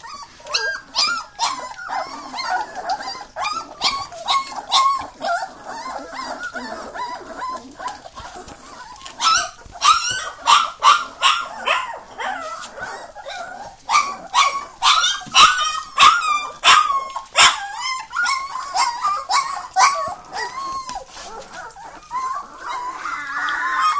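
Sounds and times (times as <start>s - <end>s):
puppies whimpering and yelping: 0.0s - 23.9s.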